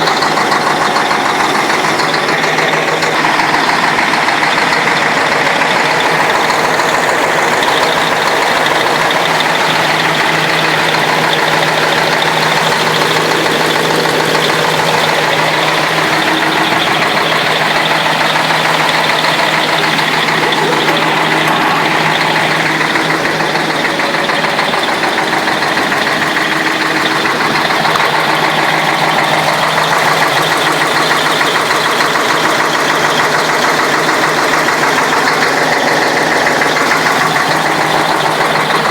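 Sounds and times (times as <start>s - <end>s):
diesel engine idling: 0.0s - 38.9s
engine knock: 0.0s - 38.9s.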